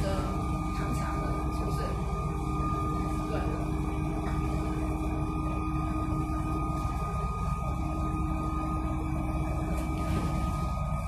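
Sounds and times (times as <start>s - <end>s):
high whine: 0.0s - 11.0s.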